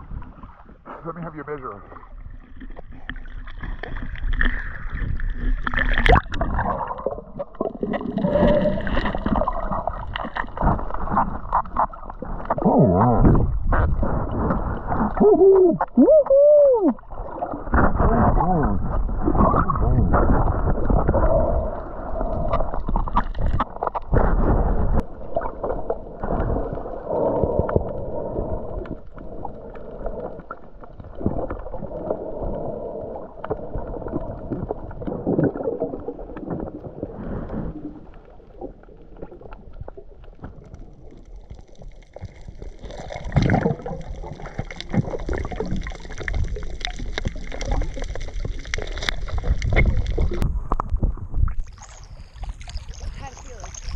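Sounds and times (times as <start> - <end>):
water bubbling underwater: 1.8 - 53.9.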